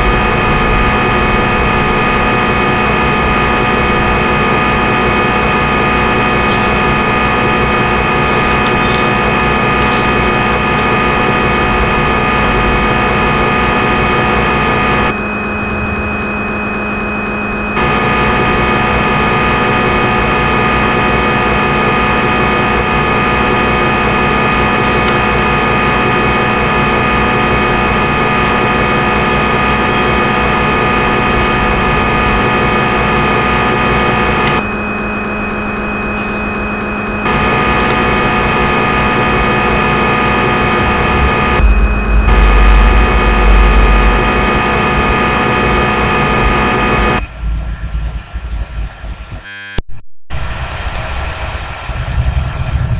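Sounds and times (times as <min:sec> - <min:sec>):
lathe spindle hum: 0:00.0 - 0:47.9
machining noise: 0:00.0 - 0:52.9.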